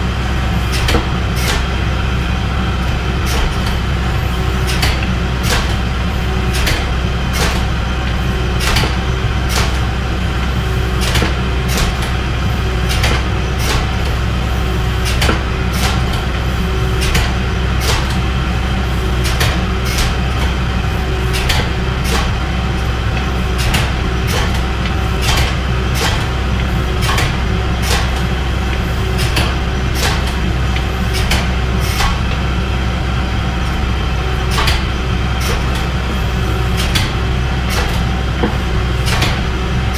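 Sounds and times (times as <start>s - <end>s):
forging press clanks: 0.0s - 39.9s
pump motor humming: 0.0s - 39.9s.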